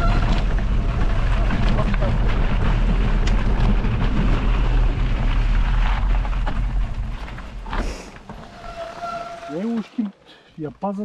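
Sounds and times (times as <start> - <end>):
bike tyres rolling on gravel: 0.0 - 10.1.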